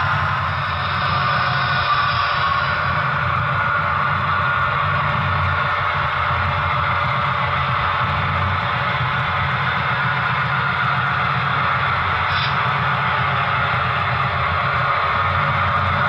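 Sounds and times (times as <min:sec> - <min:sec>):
model train diesel engine rumble: 0:00.0 - 0:16.0.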